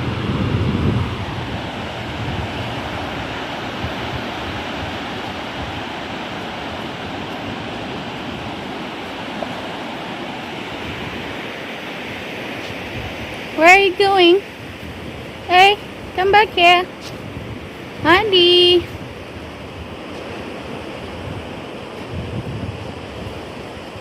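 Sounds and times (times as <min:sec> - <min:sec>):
ocean surf washing on beach: 0:00.0 - 0:24.0.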